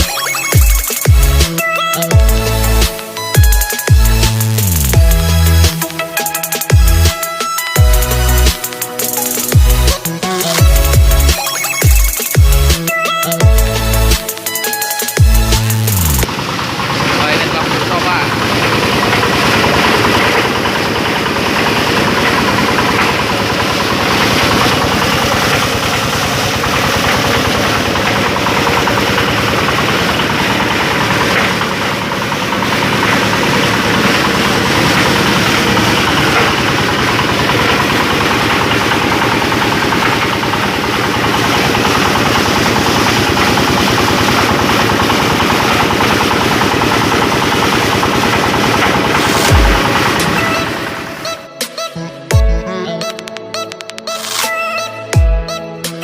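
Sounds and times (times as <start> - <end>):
plastic shredding machine running: 0.0 - 51.6.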